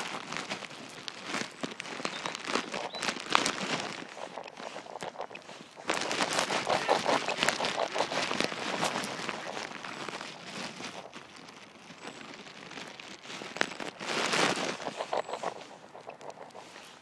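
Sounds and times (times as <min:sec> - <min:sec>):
footsteps on dry pine needles: 0:00.0 - 0:17.0.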